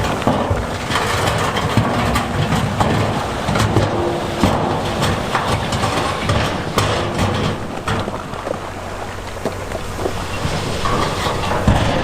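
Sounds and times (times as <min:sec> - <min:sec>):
diesel heavy equipment humming: 0:00.0 - 0:12.0.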